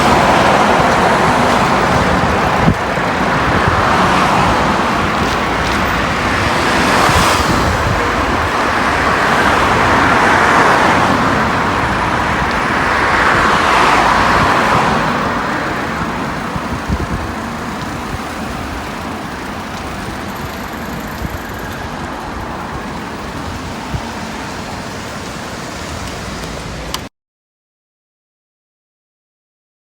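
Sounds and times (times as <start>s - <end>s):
background traffic: 0.0s - 27.1s
vehicles passing: 0.0s - 27.1s.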